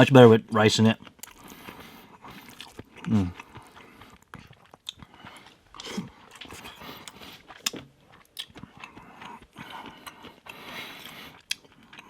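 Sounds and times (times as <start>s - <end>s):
wet chewing sounds: 0.5s - 12.0s.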